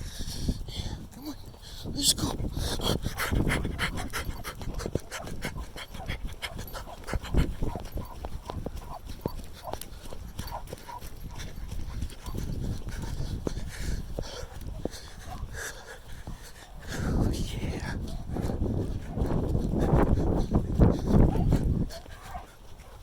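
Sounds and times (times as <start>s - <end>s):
footsteps of person and dog: 2.5s - 17.0s, 17.7s - 23.0s.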